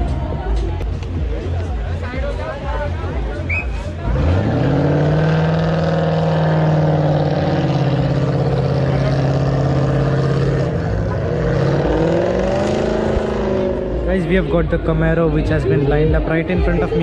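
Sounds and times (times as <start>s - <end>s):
car engine revving: 0.7s - 17.0s.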